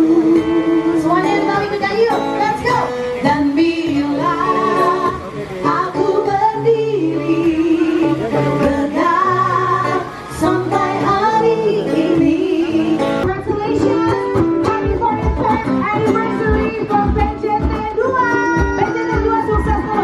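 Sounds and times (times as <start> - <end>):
guitar: 0.0 - 20.0
woman singing: 0.0 - 20.0.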